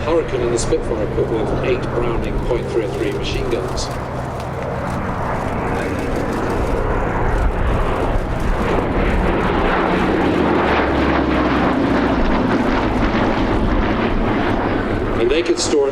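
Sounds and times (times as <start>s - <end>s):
fighter plane engines flying past: 0.0s - 15.9s.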